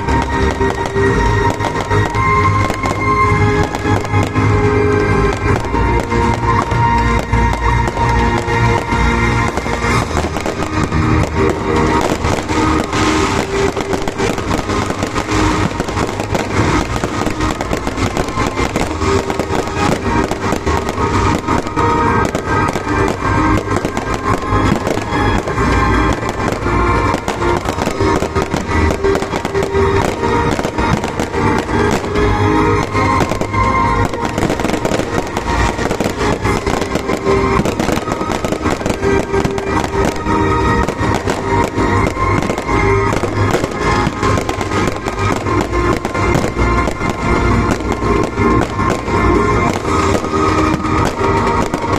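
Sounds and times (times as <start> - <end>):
fireworks banging and crackling: 0.0 - 51.9
music playing: 0.0 - 51.9.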